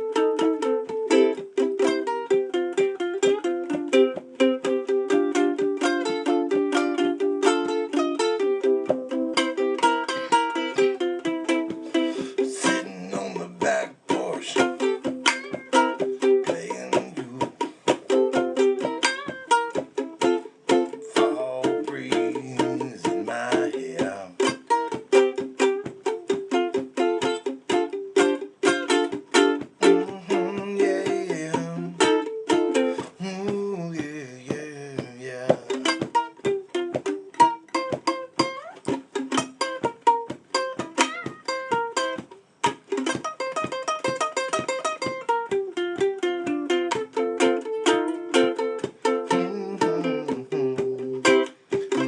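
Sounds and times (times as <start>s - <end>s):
strummed acoustic string instrument blues: 0.0s - 52.0s.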